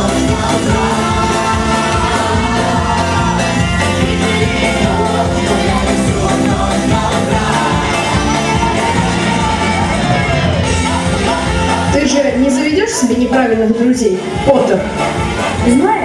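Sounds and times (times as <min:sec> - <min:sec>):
rock song with singing: 0:00.0 - 0:16.0.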